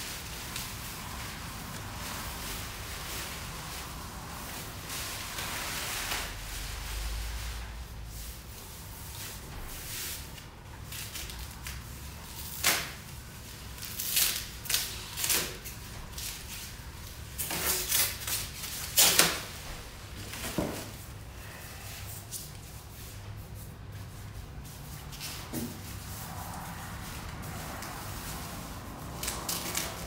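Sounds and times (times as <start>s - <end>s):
bubble wrap and plastic rustling: 0.0s - 30.0s.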